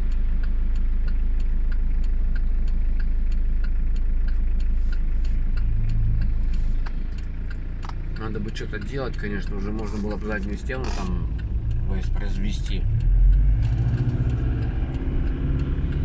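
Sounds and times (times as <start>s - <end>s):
car engine idling: 0.0s - 16.0s
light regular ticking: 0.0s - 16.0s.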